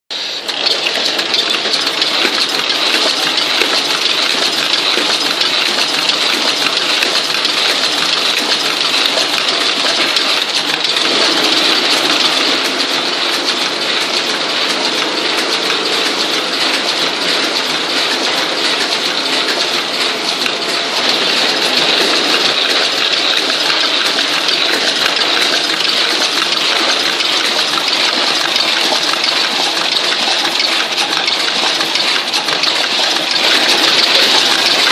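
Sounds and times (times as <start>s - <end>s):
wrapping machine clatter: 0.4s - 34.9s.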